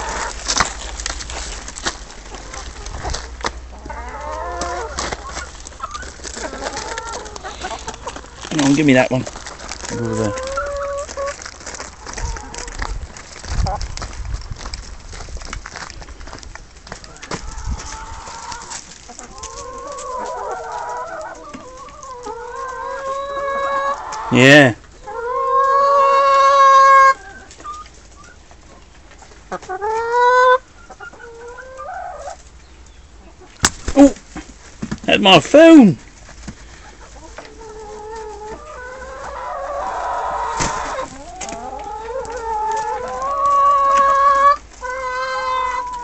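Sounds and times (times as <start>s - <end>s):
chickens' long wavering calls: 0.0s - 1.6s, 2.2s - 8.5s, 9.5s - 14.1s, 17.0s - 34.2s, 36.5s - 46.0s
chickens clucking: 0.0s - 46.0s.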